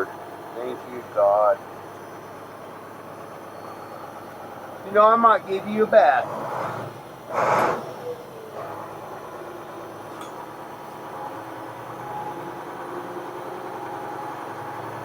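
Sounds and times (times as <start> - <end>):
diesel engine idling rough: 0.0 - 15.0.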